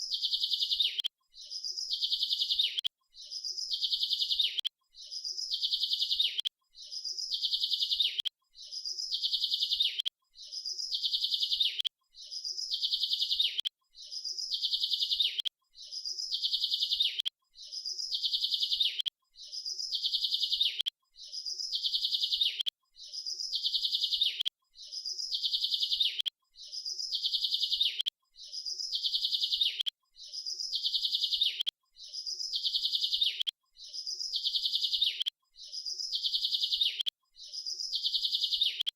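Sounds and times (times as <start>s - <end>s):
small bird chirping and trilling: 0.0s - 38.9s.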